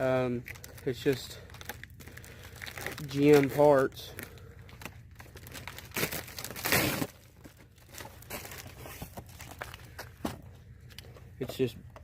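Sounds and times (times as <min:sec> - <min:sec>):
packaging crinkling: 0:00.4 - 0:10.2.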